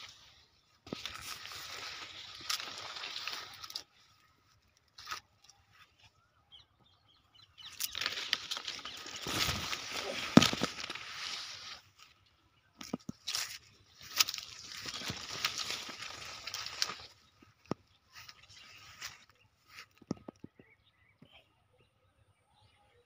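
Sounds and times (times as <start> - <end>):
footsteps through dry leaves: 0.0 - 6.2, 7.6 - 20.0
leaves and grass rustling: 0.0 - 6.2, 7.6 - 20.2.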